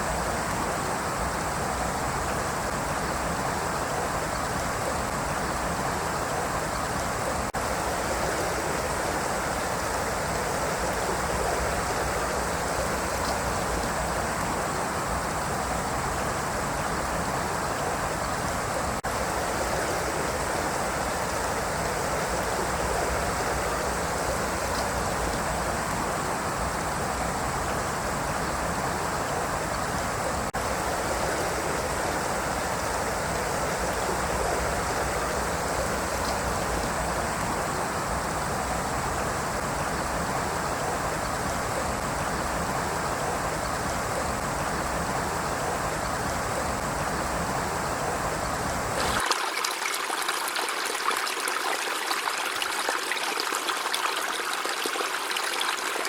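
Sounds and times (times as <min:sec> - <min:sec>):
river water rushing: 0:00.0 - 0:56.0
splashy stream: 0:00.0 - 0:56.0.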